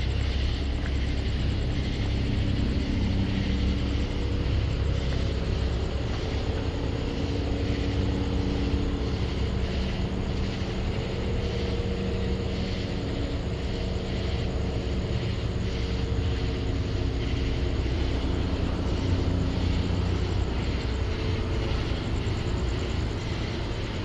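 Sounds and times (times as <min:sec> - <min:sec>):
low mechanical rumble with hum: 0:00.0 - 0:24.0
night insects buzzing: 0:00.0 - 0:24.0.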